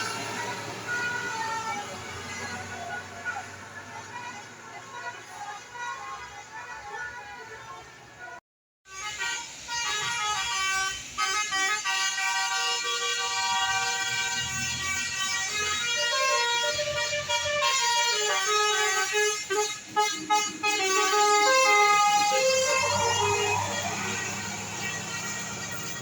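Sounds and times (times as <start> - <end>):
multi-tone bus air horn melody: 0.0 - 26.0.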